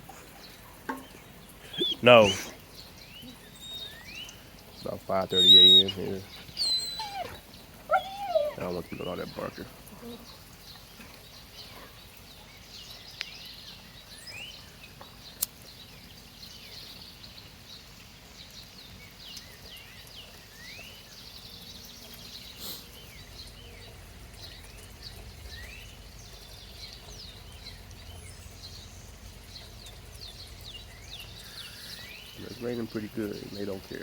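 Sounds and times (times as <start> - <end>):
birds chirping: 0.0 - 34.0
rain hissing: 0.0 - 34.0.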